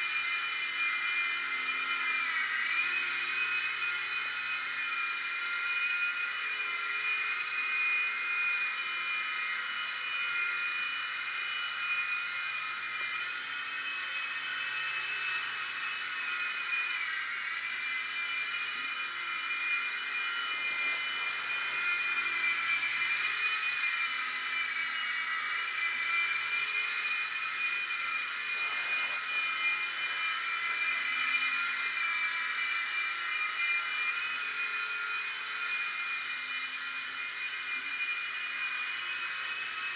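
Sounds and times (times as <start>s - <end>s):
toy helicopter high-pitched whine: 0.0s - 39.9s.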